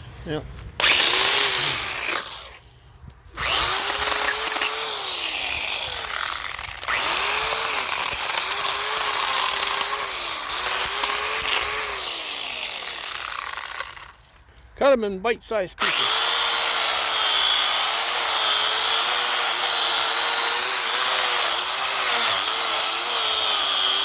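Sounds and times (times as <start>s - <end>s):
electric chainsaw cutting limbs: 0.8s - 2.7s, 3.3s - 14.4s, 15.8s - 24.0s.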